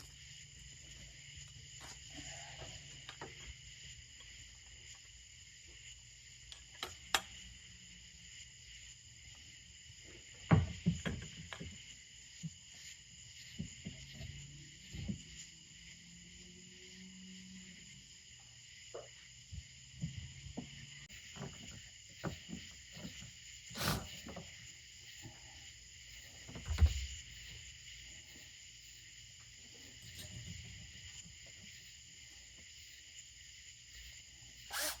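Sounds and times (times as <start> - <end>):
insect chorus: 0.0 - 35.0.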